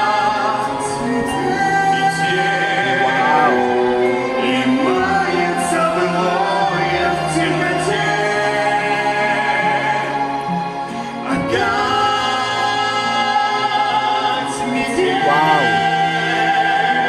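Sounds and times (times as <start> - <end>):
pop ballad duet singing: 0.0 - 17.0.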